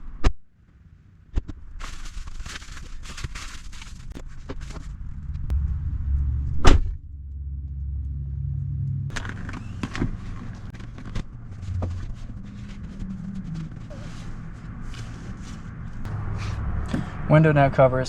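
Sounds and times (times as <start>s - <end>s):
rustling: 1.6s - 16.7s
low vehicle-like rumble: 2.9s - 18.0s.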